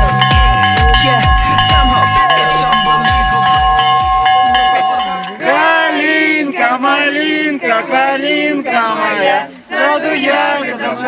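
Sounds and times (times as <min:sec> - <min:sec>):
voices singing a melody: 0:00.0 - 0:11.0.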